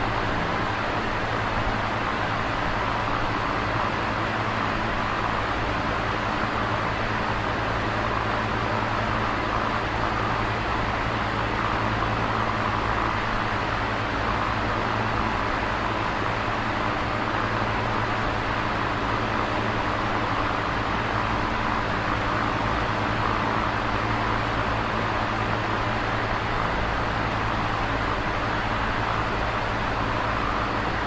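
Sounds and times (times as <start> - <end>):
electric fan whooshing: 0.0 - 31.0.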